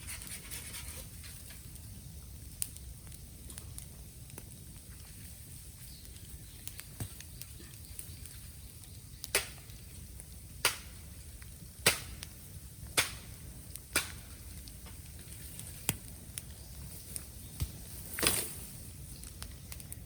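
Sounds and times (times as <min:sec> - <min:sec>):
bamboo cracking in fire: 0:00.0 - 0:20.0
faint fire crackling: 0:00.0 - 0:20.0.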